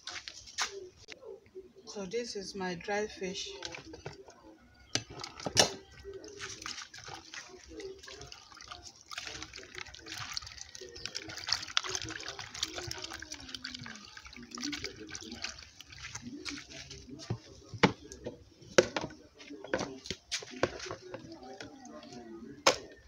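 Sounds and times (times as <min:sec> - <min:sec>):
water splashing and swishing: 0:02.8 - 0:23.0.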